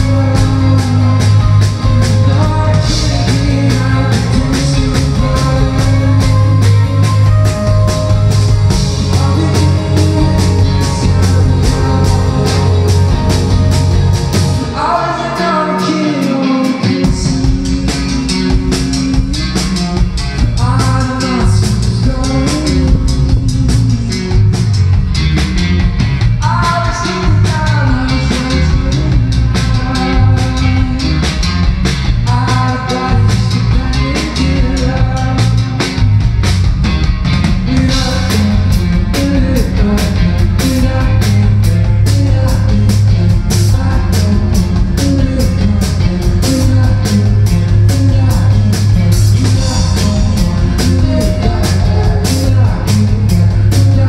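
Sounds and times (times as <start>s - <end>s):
lead vocal singing: 0.0s - 24.4s, 26.4s - 31.4s, 32.3s - 36.1s, 37.6s - 54.0s
bass guitar: 0.0s - 54.0s
drum kit: 0.0s - 54.0s
electric guitars: 0.0s - 54.0s.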